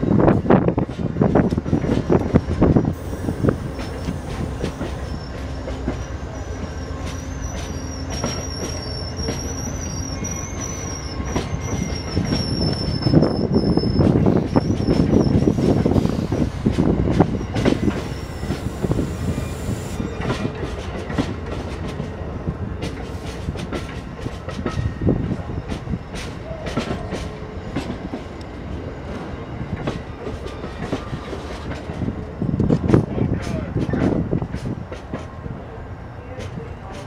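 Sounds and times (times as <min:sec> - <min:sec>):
train wheels clicking over rail joints: 0:00.7 - 0:28.6, 0:29.2 - 0:35.5
train wheel squeal: 0:01.4 - 0:22.1, 0:22.8 - 0:34.8.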